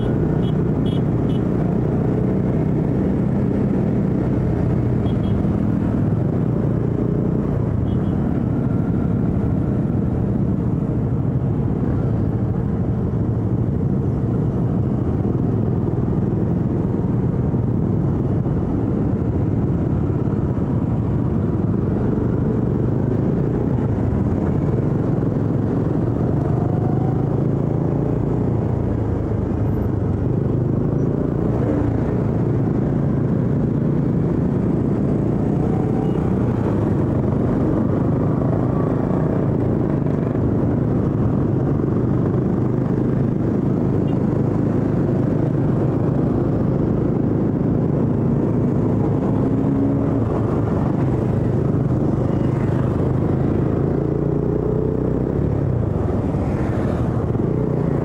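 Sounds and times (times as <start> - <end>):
road rumble: 0.0 - 58.0
wind: 0.0 - 58.0.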